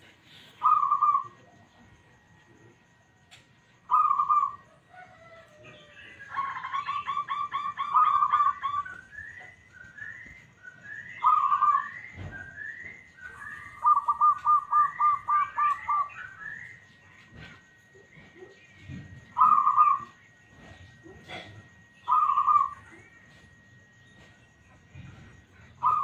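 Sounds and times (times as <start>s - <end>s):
dove cooing: 0.0s - 2.6s, 3.8s - 26.0s.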